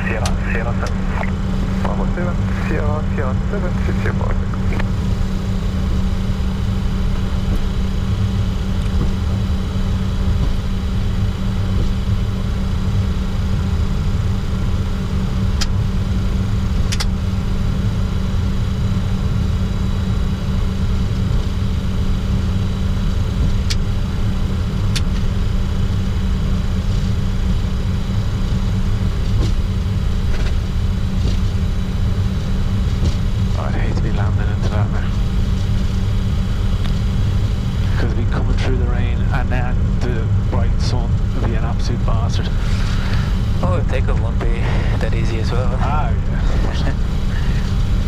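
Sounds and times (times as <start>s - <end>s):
jet engines taxiing: 0.0s - 48.0s.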